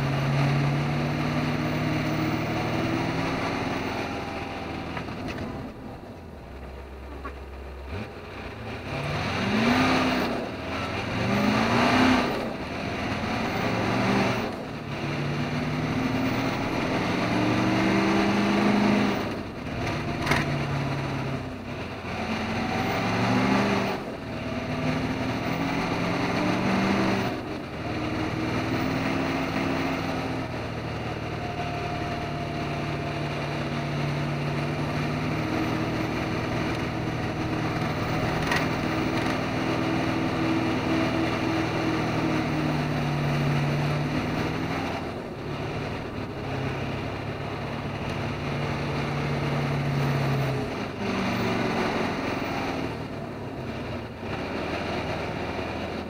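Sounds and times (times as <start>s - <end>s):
road and tyre noise: 0.0s - 56.0s
truck diesel engine running: 0.0s - 56.0s.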